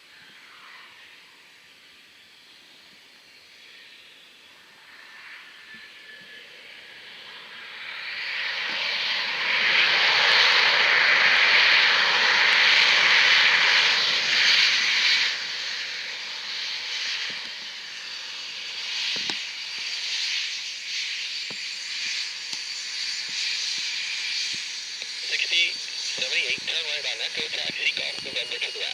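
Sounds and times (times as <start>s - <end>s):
jet aircraft engines passing: 0.0s - 28.9s.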